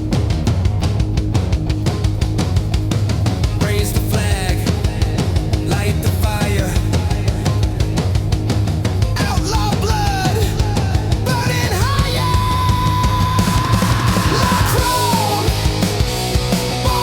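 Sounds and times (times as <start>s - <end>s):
heavy rock music: 0.0s - 17.0s
high lead guitar line bending: 0.0s - 17.0s.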